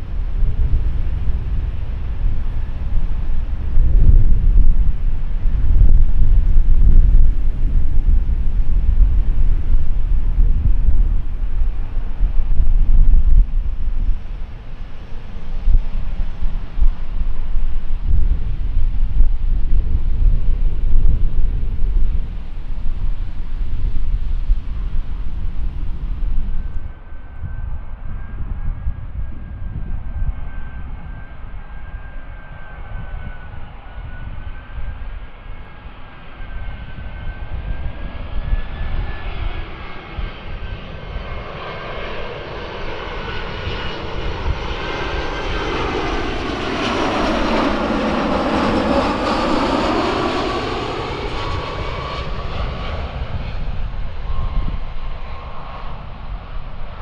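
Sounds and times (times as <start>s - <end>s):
jet airliner passing: 0.0s - 57.0s.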